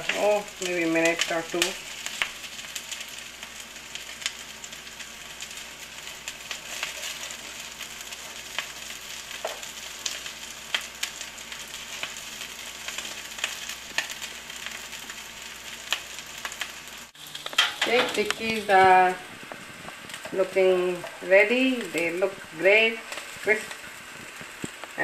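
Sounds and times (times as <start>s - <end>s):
oil popping and crackling: 0.0s - 25.0s
patties sizzling in oil: 0.0s - 25.0s.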